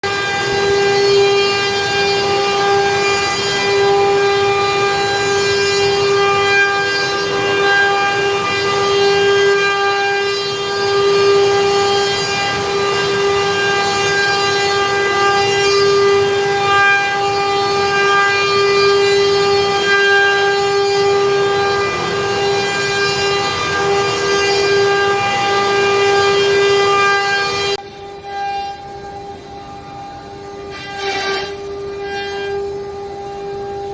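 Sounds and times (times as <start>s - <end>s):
router spindle whining carving wood: 0.0s - 33.9s.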